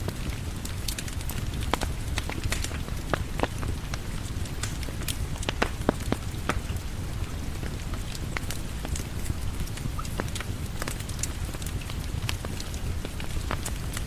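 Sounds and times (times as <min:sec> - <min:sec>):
steady rain: 0:00.0 - 0:14.0
wood fire crackling and popping: 0:00.0 - 0:14.0.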